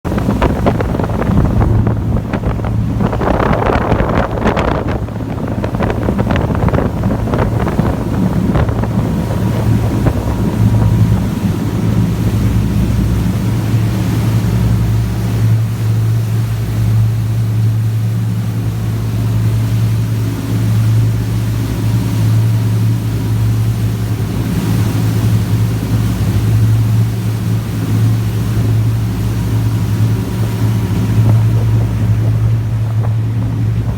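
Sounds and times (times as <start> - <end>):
boat engine humming: 0.0 - 33.9
wind on microphone: 0.0 - 33.9.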